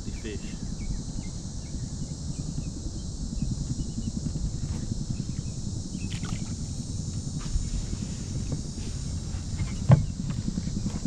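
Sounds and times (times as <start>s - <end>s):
insect hum: 0.0s - 11.0s
steady low rumble: 0.0s - 11.0s.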